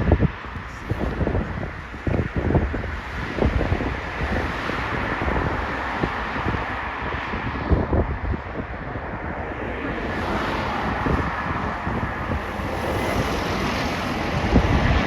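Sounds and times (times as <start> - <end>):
rushing wind roar: 0.0 - 15.0
wind buffeting microphone: 0.0 - 15.0.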